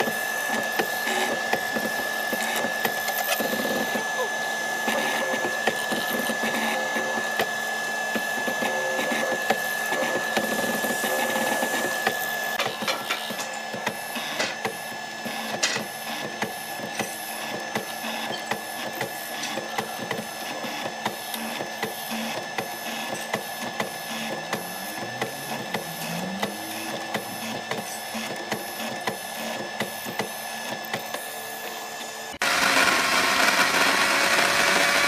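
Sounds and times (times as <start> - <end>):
mortising machine motor whine: 0.0 - 35.0.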